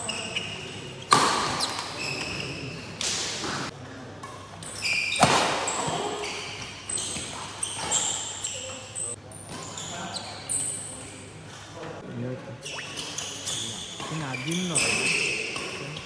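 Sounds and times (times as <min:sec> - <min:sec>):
shoes squeaking on court: 0:00.0 - 0:03.7, 0:04.6 - 0:11.2, 0:12.6 - 0:16.0.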